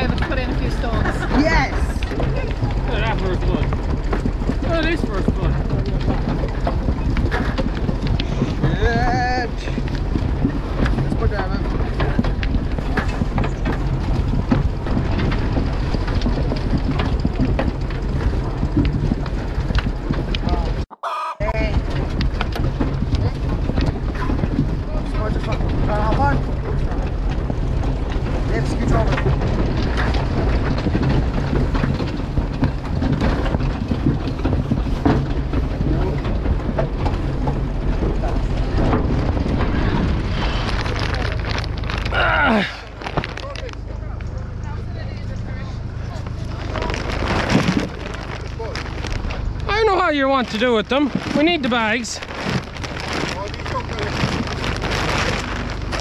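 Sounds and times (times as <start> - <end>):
harvester chains clattering: 0.0 - 20.9, 21.6 - 56.0
tractor engine drone: 0.0 - 56.0.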